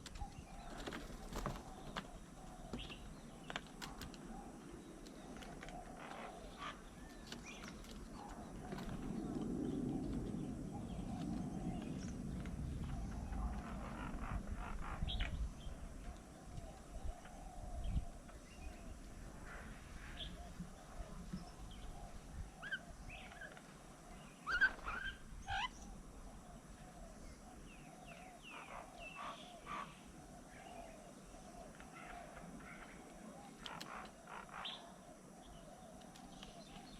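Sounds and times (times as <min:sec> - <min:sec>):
birds chirping and calling: 0:00.0 - 0:36.9.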